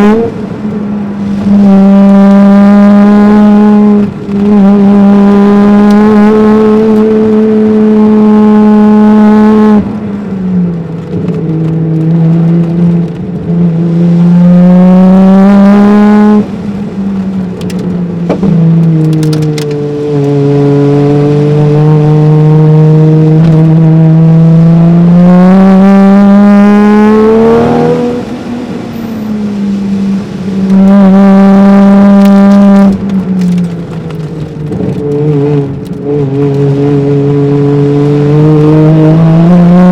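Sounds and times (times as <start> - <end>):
car engine revving at full throttle: 0.0 - 39.9.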